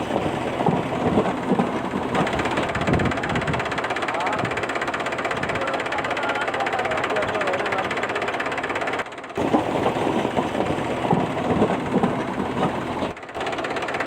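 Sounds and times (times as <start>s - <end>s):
tractor engine chugging: 0.0s - 14.0s.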